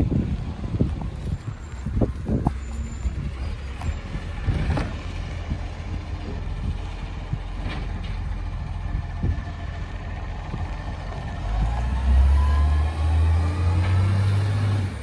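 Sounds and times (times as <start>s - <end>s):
garbage truck engine rumble: 0.0s - 15.0s.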